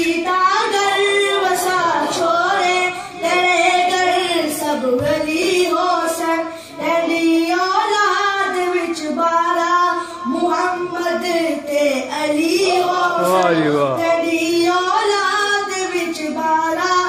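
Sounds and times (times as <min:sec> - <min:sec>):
boy singing into a microphone: 0:00.0 - 0:17.0.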